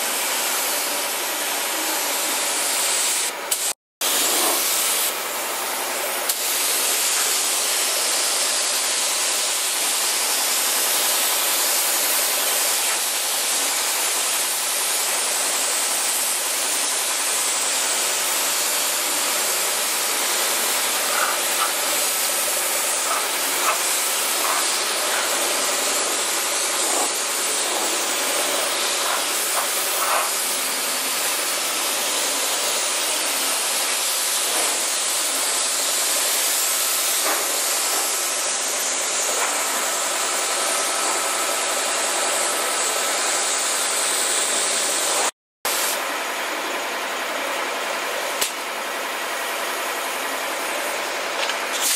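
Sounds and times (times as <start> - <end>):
spray gun hissing: 0.2 - 5.4, 6.2 - 46.0, 51.6 - 51.9.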